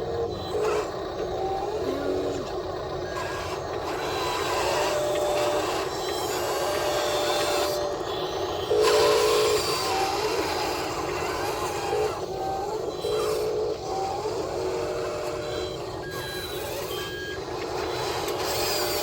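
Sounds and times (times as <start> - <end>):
small electric motors whining: 0.0 - 19.0
steady mechanical hum: 0.0 - 19.0.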